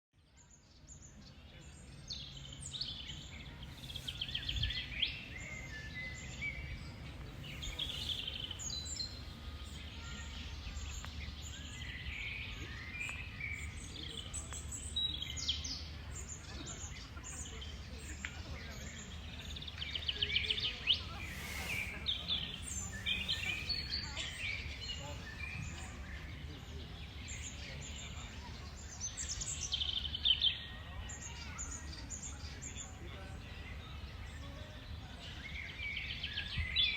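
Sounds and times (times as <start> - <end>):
songbirds singing and trilling: 0.2 - 36.9.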